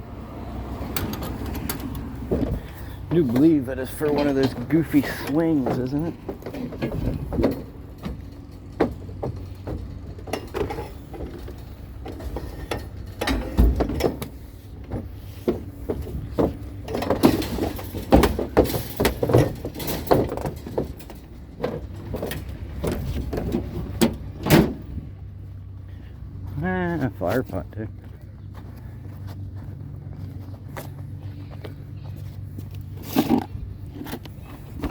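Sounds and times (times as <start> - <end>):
scrap metal clanking and rattling: 0.9 - 34.9
steady low hum: 4.6 - 34.9.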